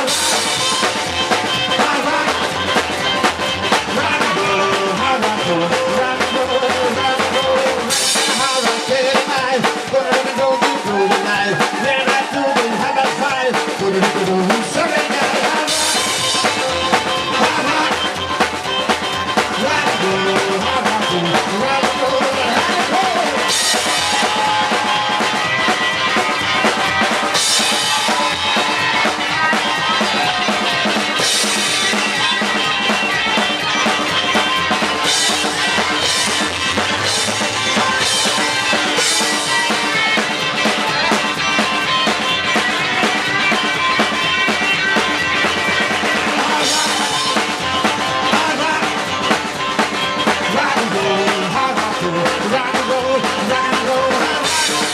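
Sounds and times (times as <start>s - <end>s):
drum kit beat: 0.0s - 54.9s
rock and roll band playing: 0.0s - 54.9s.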